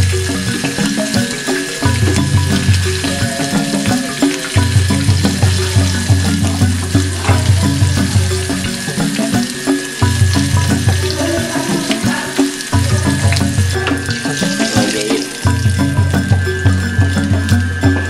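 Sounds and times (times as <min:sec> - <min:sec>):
background music with steady beat: 0:00.0 - 0:18.0
oil sizzling and crackling: 0:00.0 - 0:18.0.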